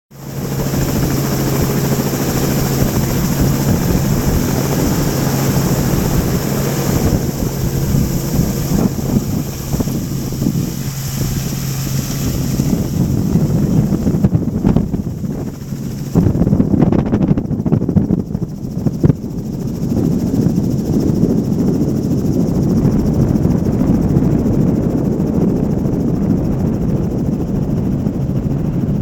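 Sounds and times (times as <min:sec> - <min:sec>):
helicopter rotor and engine: 0:00.1 - 0:29.0
steady hum: 0:00.2 - 0:29.0
wind buffeting microphone: 0:00.2 - 0:29.0.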